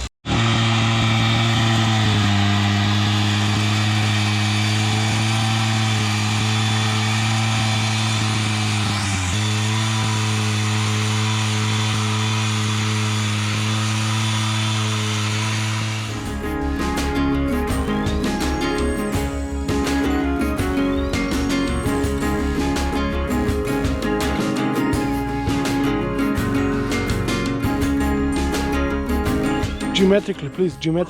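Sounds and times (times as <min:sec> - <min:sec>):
small petrol engine running: 0:00.0 - 0:30.6.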